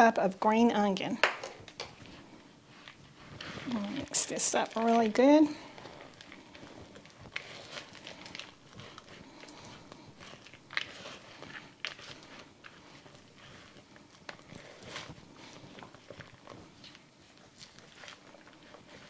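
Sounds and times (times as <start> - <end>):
mixture stirred and scraped in bowl: 0.0 - 19.0.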